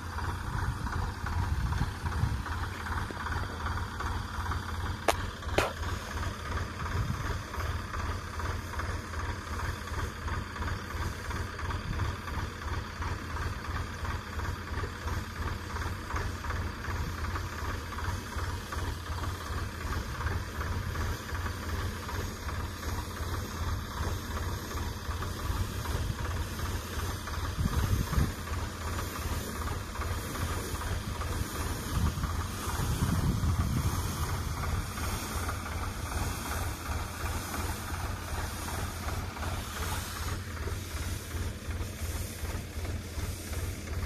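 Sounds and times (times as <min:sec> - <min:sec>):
spray pump hiss: 0:00.0 - 0:44.0
tractor engine running: 0:00.0 - 0:44.0.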